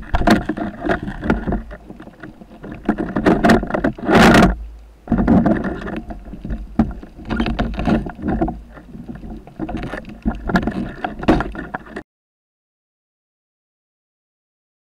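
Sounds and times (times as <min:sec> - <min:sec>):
bumps and knocks underwater: 0:00.0 - 0:12.0
muffled underwater water movement: 0:00.0 - 0:12.0.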